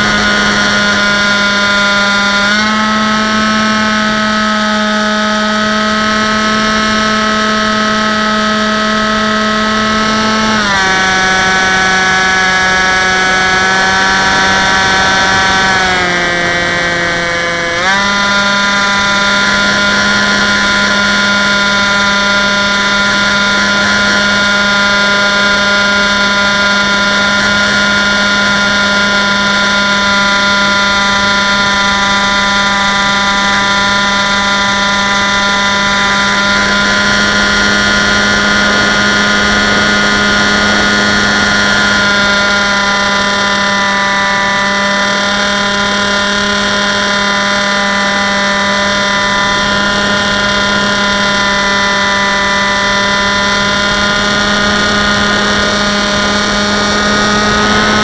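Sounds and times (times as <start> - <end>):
electric propeller buzzing whine: 0.0 - 58.0.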